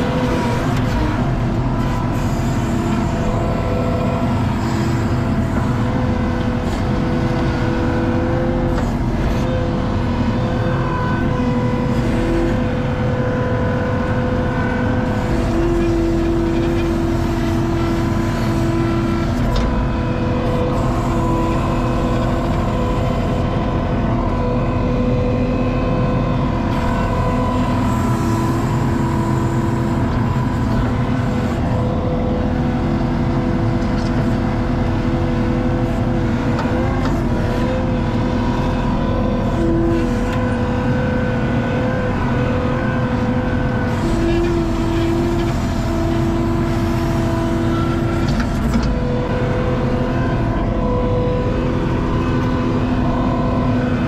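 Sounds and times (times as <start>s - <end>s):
diesel engine rumble: 0.0s - 54.0s
hydraulic whine: 0.0s - 54.0s.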